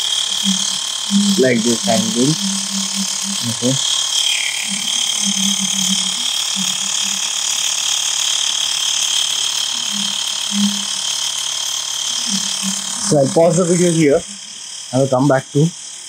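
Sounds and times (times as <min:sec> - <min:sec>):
air compressor whining: 0:00.0 - 0:16.0
low buzz: 0:00.0 - 0:16.0.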